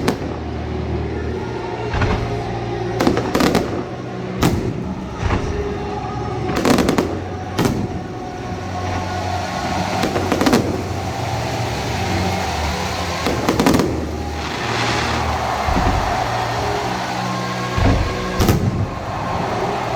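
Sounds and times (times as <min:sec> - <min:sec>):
steady background din: 0:00.0 - 0:19.9
fireworks exploding: 0:02.0 - 0:05.9, 0:06.6 - 0:19.9.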